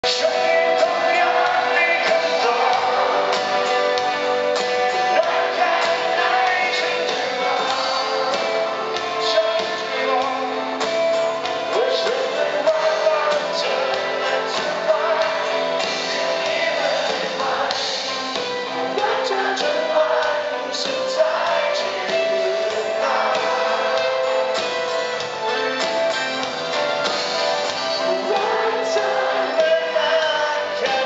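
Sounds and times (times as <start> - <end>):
person singing: 0.0 - 25.2, 27.7 - 31.0
drums: 0.0 - 31.0
guitars: 0.0 - 31.0.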